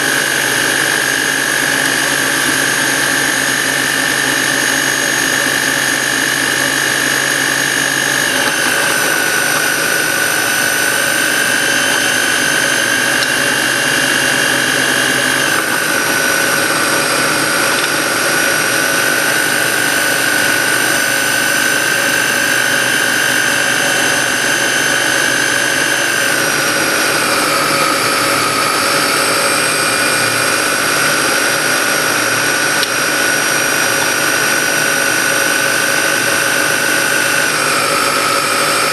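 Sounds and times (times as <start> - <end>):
food processor motor whining: 0.0 - 38.9.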